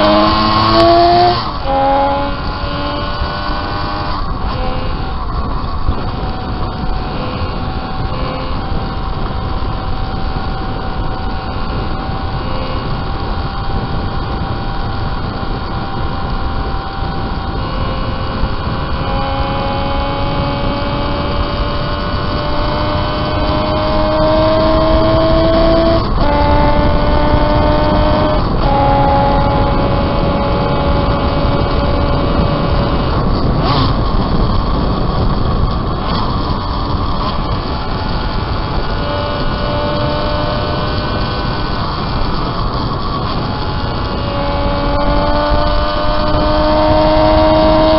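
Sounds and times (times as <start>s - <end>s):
racing motorcycle engine: 0.0s - 47.9s
wind rushing noise: 0.0s - 47.9s.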